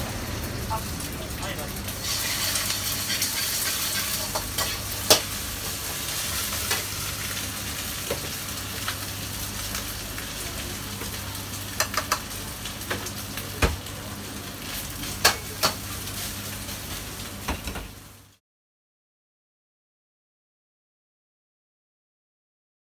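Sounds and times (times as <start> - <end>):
vegetables sizzling in a wok: 0.0 - 18.4.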